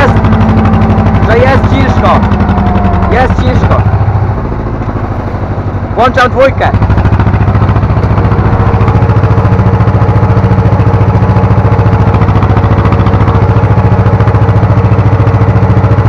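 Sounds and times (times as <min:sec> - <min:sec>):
diesel tractor engine labouring: 0:00.0 - 0:16.0.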